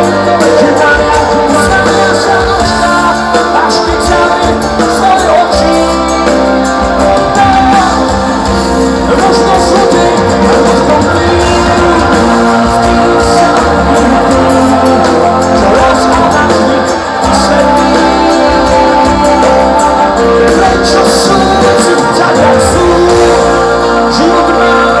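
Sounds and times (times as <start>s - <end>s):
lead singer vocal: 0.0s - 25.0s
live pop-rock band: 0.0s - 25.0s.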